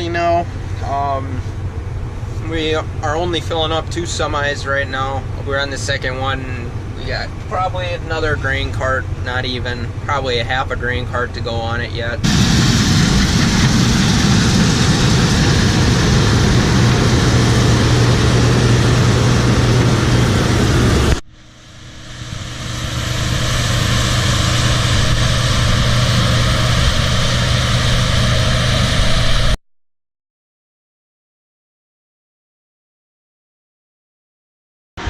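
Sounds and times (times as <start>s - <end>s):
heavy machinery engine droning: 0.0s - 29.6s.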